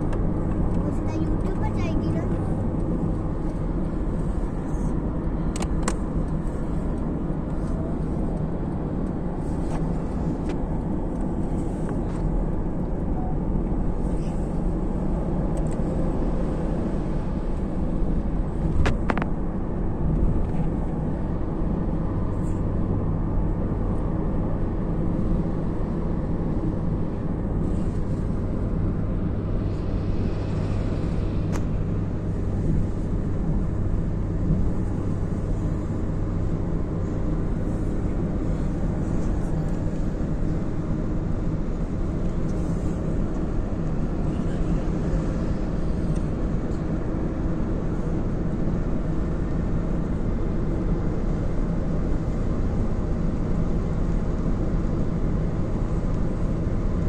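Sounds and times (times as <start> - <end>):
car road noise: 0.0 - 57.0.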